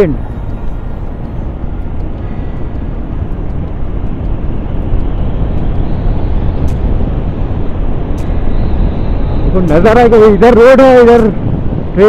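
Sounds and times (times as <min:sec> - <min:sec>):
motorcycle road noise: 0:00.0 - 0:12.0
wind rush over microphone: 0:00.0 - 0:12.0.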